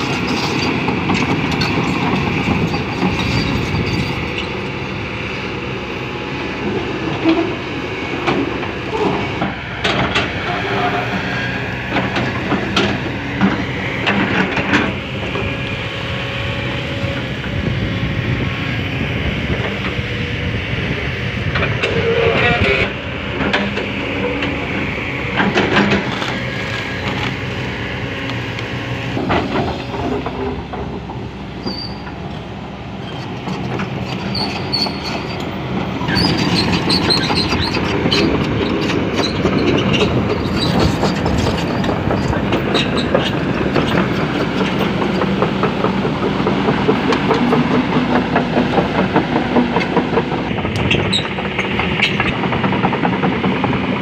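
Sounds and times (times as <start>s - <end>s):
metallic clanks and squeals of tracks: 0.0s - 4.8s, 6.6s - 15.8s, 21.5s - 27.7s, 29.2s - 54.0s
excavator diesel engine running: 0.0s - 54.0s.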